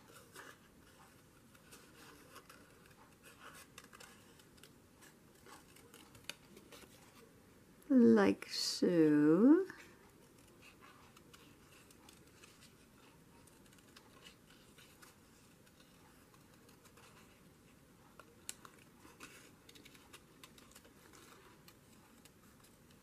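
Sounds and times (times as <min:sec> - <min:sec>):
scissors snipping paper: 0:00.0 - 0:07.0, 0:10.1 - 0:23.0.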